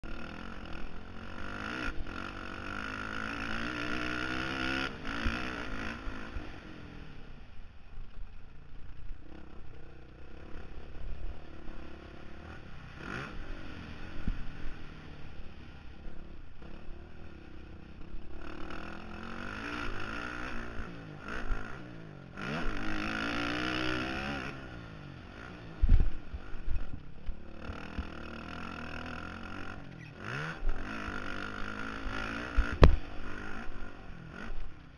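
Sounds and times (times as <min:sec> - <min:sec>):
dirt bike engine revving: 0:00.0 - 0:07.5, 0:08.9 - 0:34.9.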